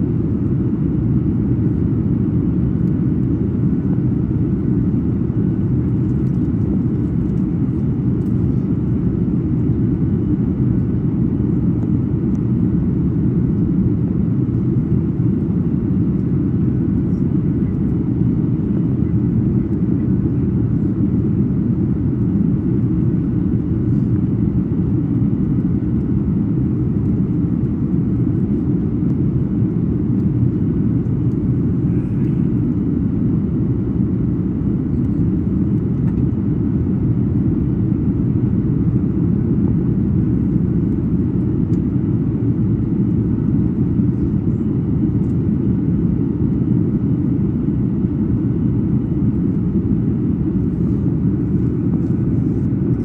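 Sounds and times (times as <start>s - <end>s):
airplane cabin rumble: 0.0s - 53.0s.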